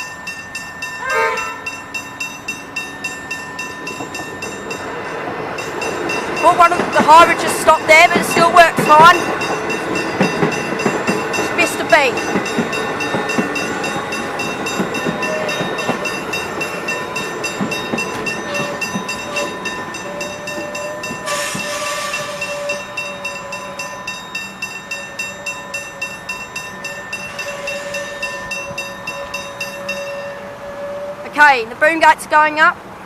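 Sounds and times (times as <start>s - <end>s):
level crossing bells ringing: 0.0s - 30.6s
electric train passing: 0.0s - 33.0s.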